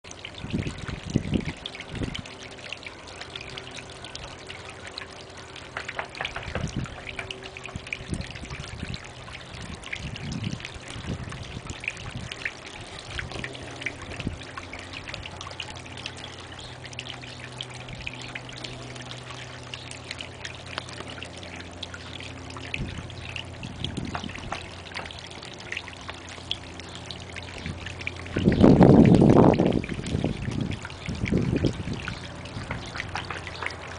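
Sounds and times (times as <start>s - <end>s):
fountain water trickling and splashing: 0.0s - 33.9s
small drips: 0.1s - 33.9s.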